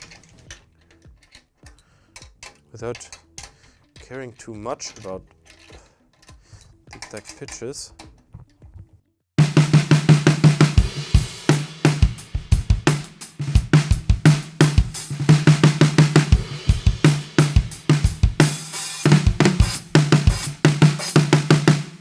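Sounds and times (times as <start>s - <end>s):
drum kit groove: 0.0s - 22.0s.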